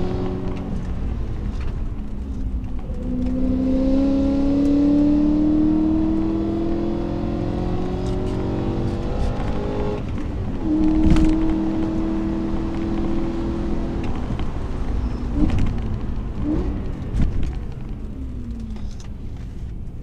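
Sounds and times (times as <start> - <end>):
car engine revving: 0.0 - 19.1.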